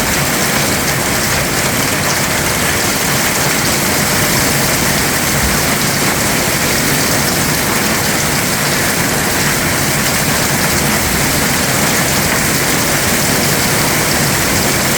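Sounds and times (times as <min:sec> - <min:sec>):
heavy rain: 0:00.0 - 0:14.9.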